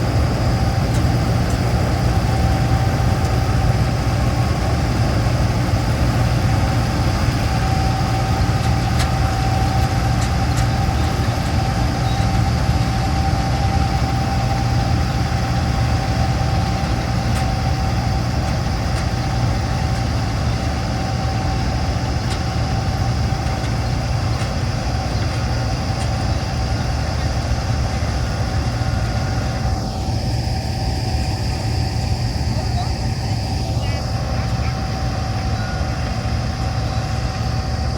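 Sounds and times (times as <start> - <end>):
combine harvester engine hum: 0.0 - 37.9
steady whine: 0.0 - 37.9.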